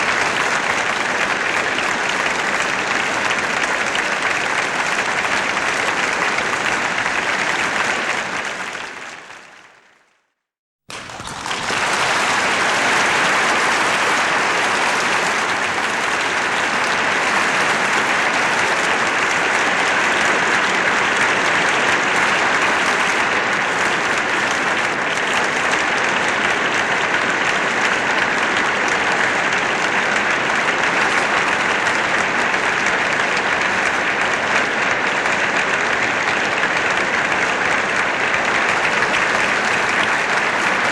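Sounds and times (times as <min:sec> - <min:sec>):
audience applause: 0:00.0 - 0:10.1, 0:10.9 - 0:40.9.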